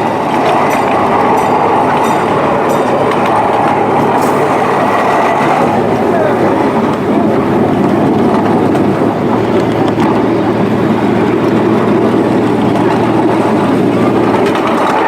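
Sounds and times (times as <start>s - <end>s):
miniature train running on track: 0.0s - 15.0s.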